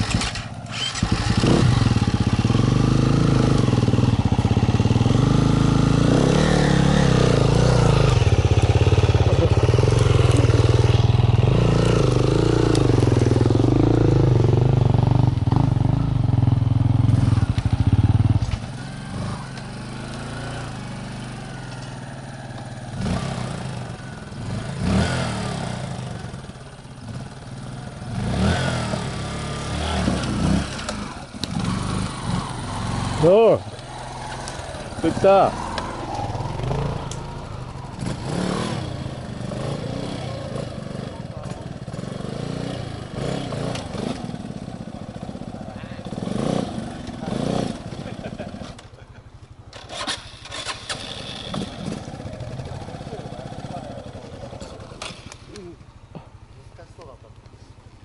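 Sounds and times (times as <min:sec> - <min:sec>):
motorcycle engine revving: 0:00.0 - 0:57.4.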